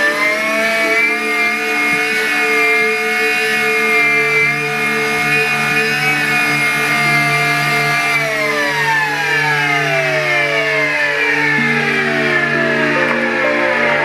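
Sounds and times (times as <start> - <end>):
vacuum cleaner whine: 0.0 - 14.0.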